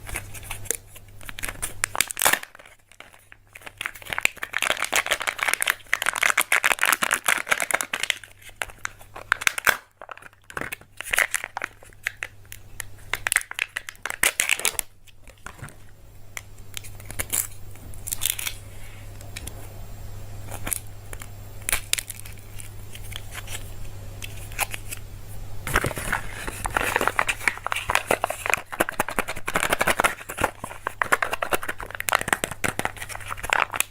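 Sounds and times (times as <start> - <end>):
plastic wrappers crinkling and tearing: 0.0 - 19.6, 20.5 - 25.0, 25.7 - 33.9
low steady hum: 0.0 - 33.9.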